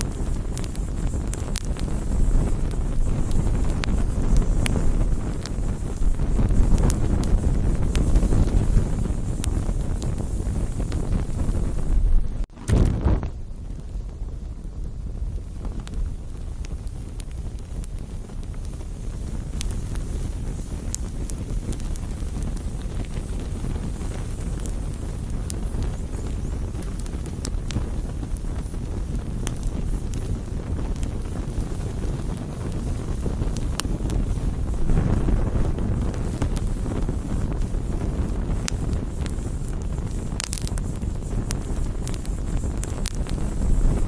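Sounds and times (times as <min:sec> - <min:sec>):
campfire flames rumbling: 0:00.0 - 0:44.0
wood crackling and popping: 0:00.0 - 0:44.0.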